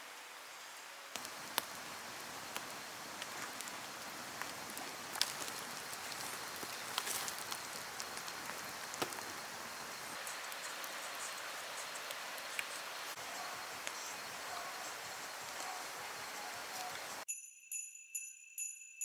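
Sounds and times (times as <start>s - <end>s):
campfire crackling and popping: 0.1s - 17.2s.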